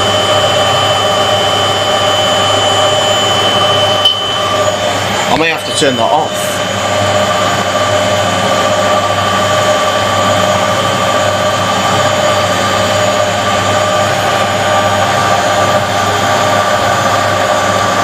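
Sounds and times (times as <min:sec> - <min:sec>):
low hum: 0:00.0 - 0:18.0
washing machine motor whine: 0:00.0 - 0:18.0.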